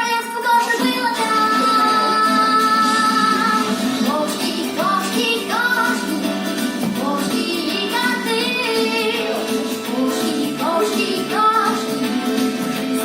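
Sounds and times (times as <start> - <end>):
voices singing: 0.0 - 13.0
instrumental accompaniment: 2.1 - 13.0.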